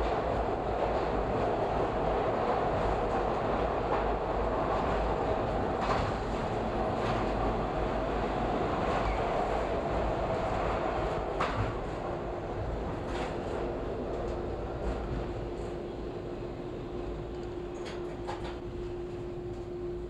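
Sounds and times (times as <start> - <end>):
steady train hum: 0.0 - 20.0
train wheels rumbling on rail: 0.0 - 20.0.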